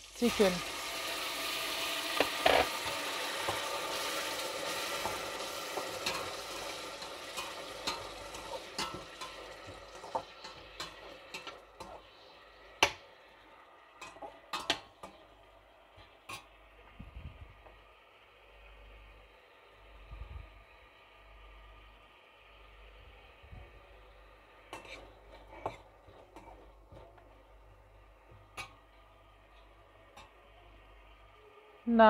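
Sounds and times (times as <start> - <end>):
food sizzling in a pot: 0.0 - 32.0.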